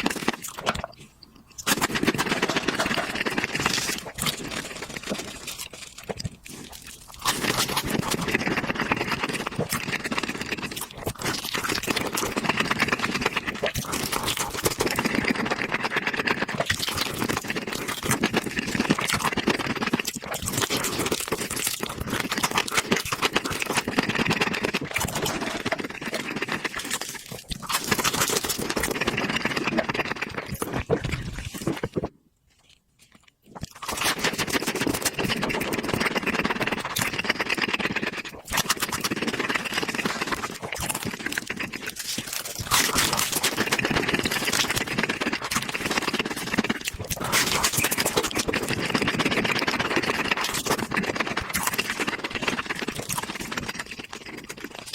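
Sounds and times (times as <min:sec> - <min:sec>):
chewing and crunching fried chicken: 0:00.0 - 0:54.9.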